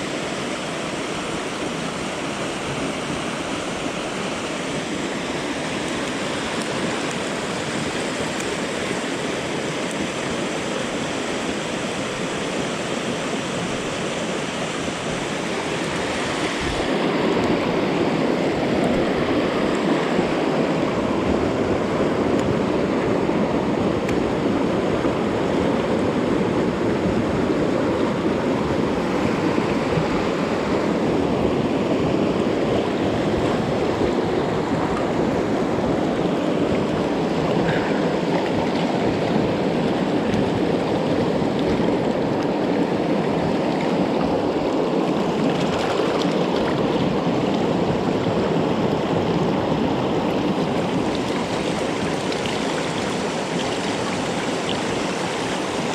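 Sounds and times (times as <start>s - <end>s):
creek water rushing over rocks: 0.0s - 55.9s.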